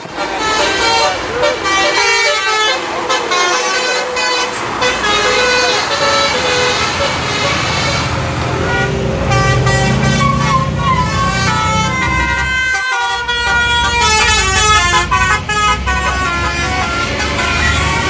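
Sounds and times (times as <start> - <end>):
bus engines running: 0.0 - 18.0
musical bus horn melodies: 0.0 - 18.0.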